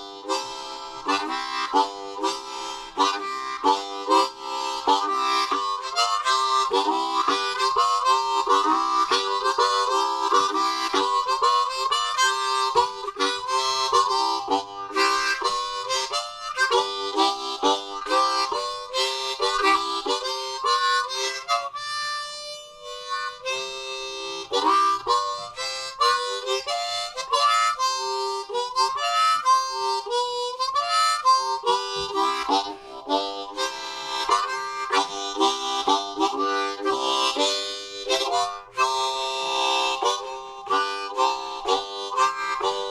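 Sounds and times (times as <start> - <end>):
harmonica playing blues: 0.0 - 42.9.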